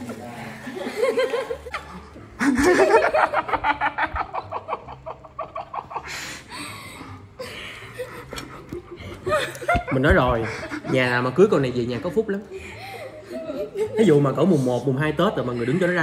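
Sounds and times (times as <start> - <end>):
people laughing hard: 0.4 - 14.8, 15.4 - 16.0.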